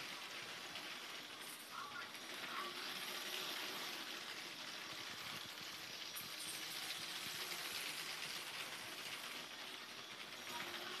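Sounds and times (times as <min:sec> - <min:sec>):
toy train whirring on track: 0:00.0 - 0:11.0.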